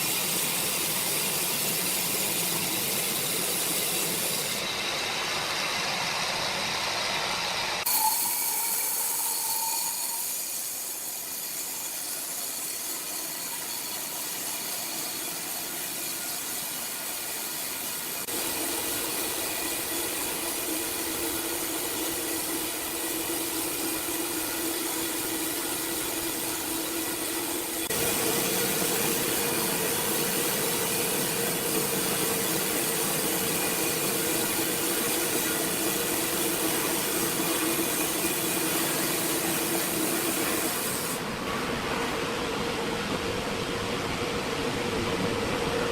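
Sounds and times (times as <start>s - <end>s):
sawmill machinery hiss: 0.0s - 44.7s
mechanical hum: 0.0s - 45.9s.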